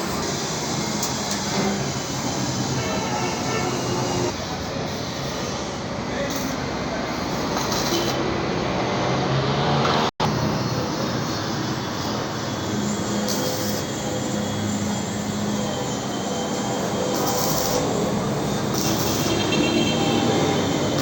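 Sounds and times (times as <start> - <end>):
workshop machine noise: 0.0 - 21.0.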